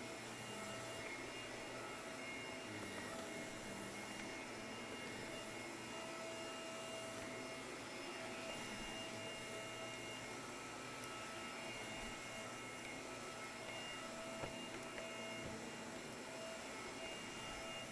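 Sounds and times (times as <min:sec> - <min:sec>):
vacuum cleaner running on carpet: 0:00.0 - 0:17.9.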